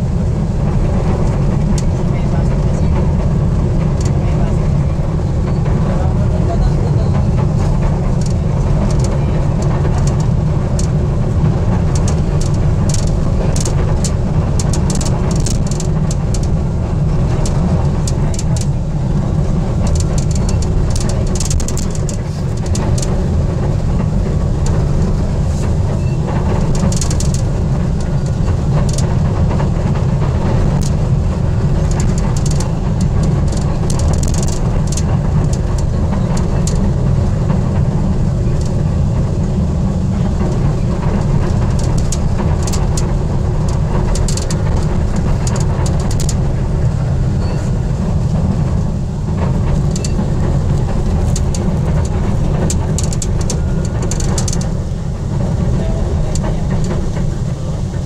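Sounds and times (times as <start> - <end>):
train clicks and rattles: 0.0 - 58.0
train low rumble: 0.0 - 58.0.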